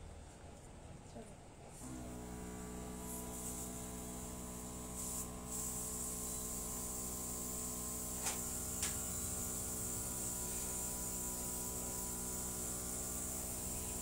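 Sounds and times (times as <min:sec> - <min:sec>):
airbrush spraying hiss: 0:01.8 - 0:14.0
compressor humming: 0:01.8 - 0:14.0.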